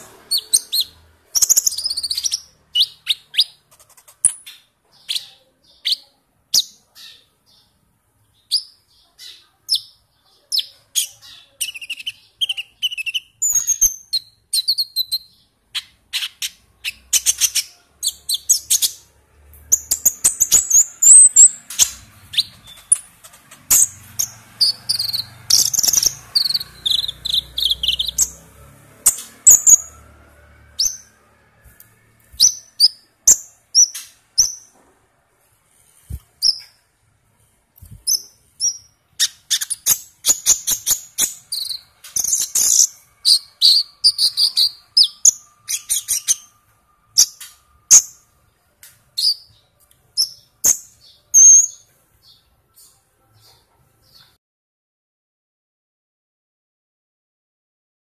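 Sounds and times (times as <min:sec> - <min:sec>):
bird chirping and twittering: 0:00.0 - 0:34.8, 0:36.0 - 0:36.8, 0:37.8 - 0:54.4.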